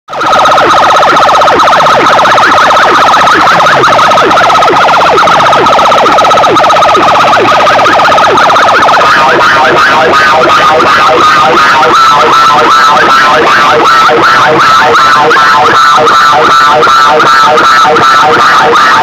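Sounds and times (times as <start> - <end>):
siren-like electronic effect: 0.1 - 19.0.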